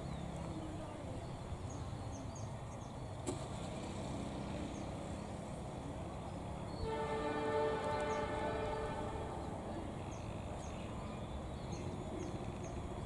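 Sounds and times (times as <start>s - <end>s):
distant locomotive rumble: 0.0s - 13.0s.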